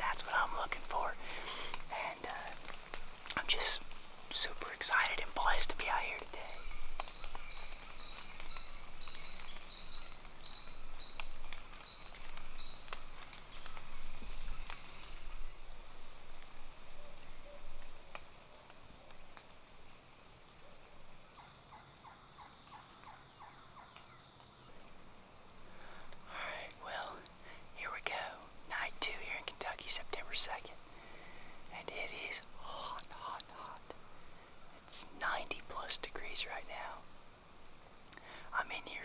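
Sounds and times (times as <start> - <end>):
crickets and katydids buzzing: 0.0 - 24.7, 25.6 - 39.0
insect chirp pulsing: 0.0 - 39.0.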